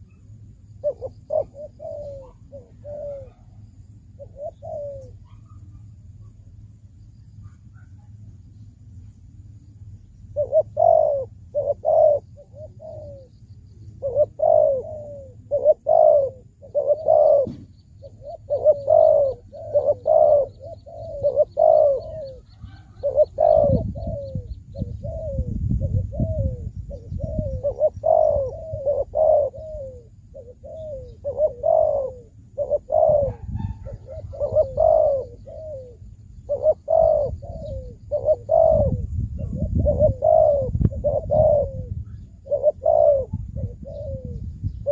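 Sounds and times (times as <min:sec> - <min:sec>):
dove cooing: 0:00.0 - 0:06.6, 0:10.2 - 0:44.9.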